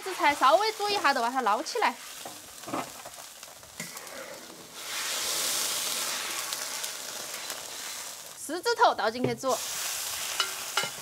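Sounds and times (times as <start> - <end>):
broth boiling in a wok: 0.0 - 11.0.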